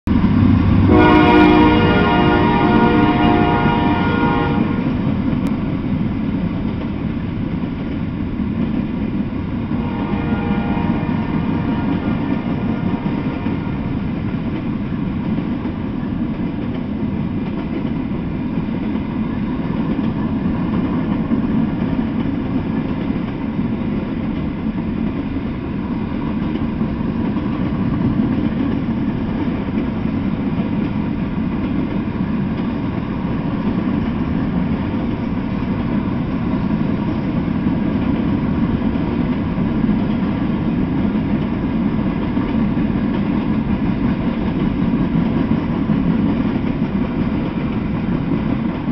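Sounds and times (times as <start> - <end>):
freight train wheels rumbling on rail: 0.0 - 48.9.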